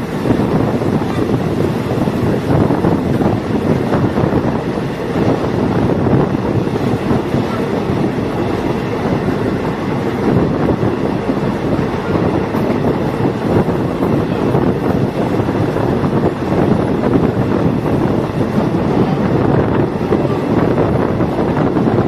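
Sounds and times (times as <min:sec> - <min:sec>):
train running: 0:00.0 - 0:22.0
wind buffeting microphone: 0:00.0 - 0:22.0.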